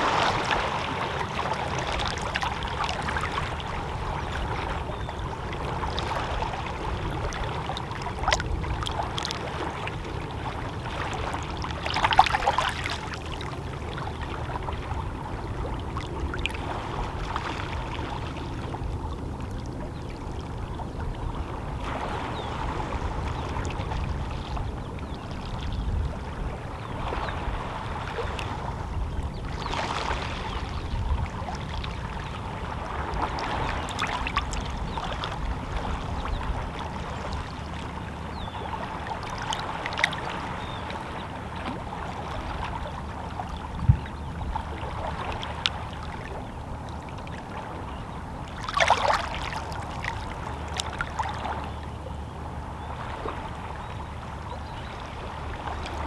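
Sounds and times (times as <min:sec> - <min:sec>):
waves lapping against rocks: 0:00.0 - 0:19.6, 0:20.2 - 0:51.7.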